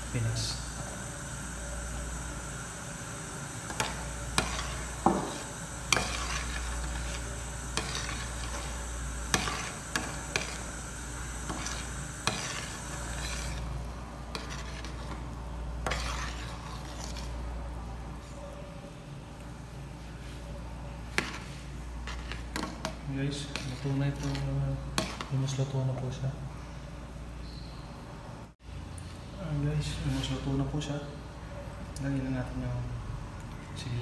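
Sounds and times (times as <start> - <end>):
boiling soup hissing: 0.0 - 28.0.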